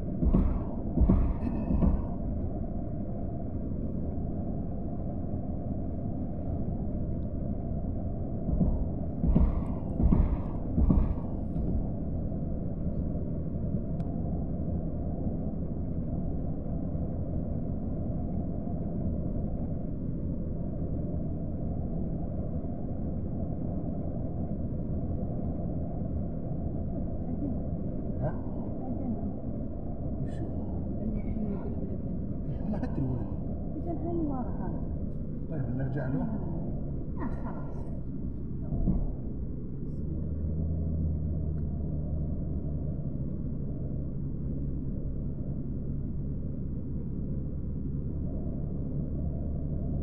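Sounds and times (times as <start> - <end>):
car driving heard from cabin: 0.0 - 50.0.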